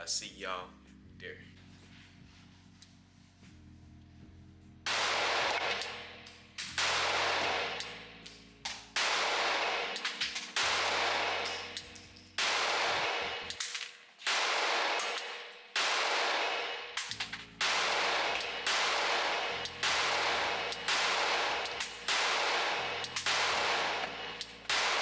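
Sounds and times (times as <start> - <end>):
pistol shots echoing: 4.9 - 25.0.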